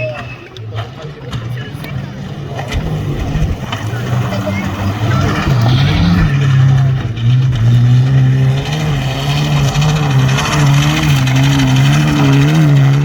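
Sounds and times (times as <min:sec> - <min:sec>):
rally car engine revving: 0:00.6 - 0:13.0.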